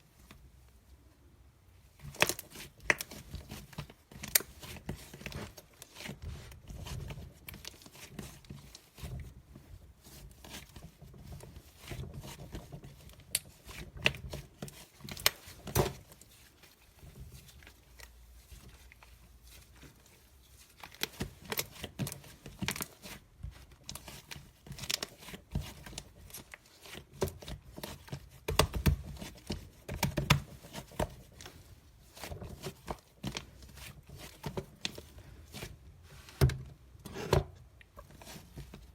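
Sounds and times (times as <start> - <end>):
crinkly material crinkling and tearing: 1.8 - 38.9.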